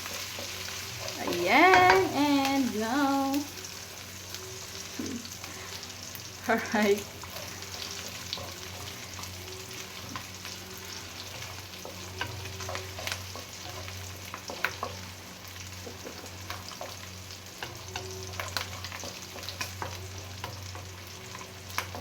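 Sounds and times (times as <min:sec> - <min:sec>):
pork sizzling in a pan: 0:00.0 - 0:22.0.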